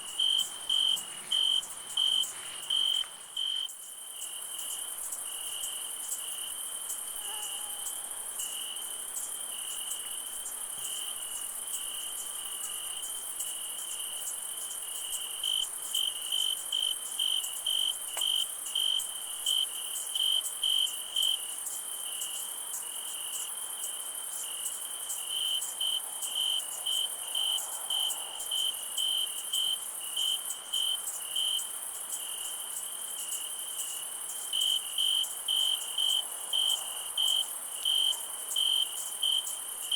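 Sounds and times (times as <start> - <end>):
cricket trilling and chirping: 0.0 - 39.9
insects chorus hiss: 0.0 - 39.9.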